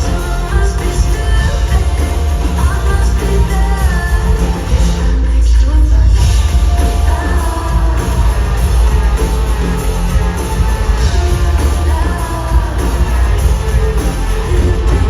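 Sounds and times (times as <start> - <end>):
pop-rock band playing live: 0.0 - 5.3, 6.1 - 15.0
person singing: 0.0 - 15.0.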